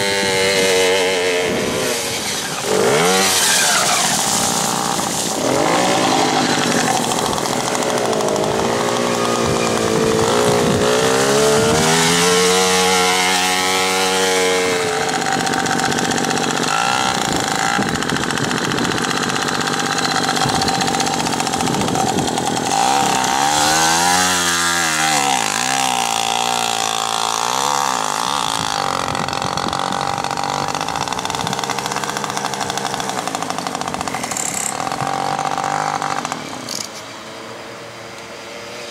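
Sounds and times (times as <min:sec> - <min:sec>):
two-stroke engines revving: 0:00.0 - 0:37.0.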